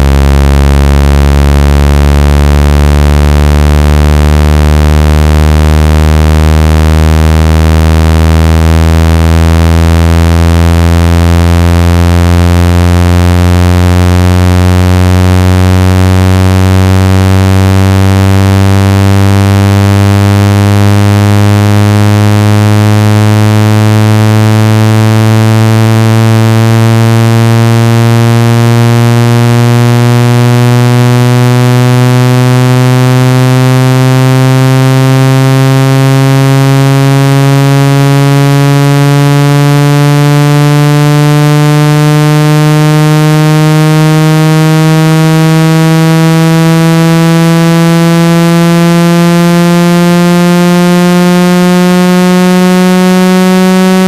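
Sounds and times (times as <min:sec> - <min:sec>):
buzzy low rising tone: 0:00.0 - 0:54.0.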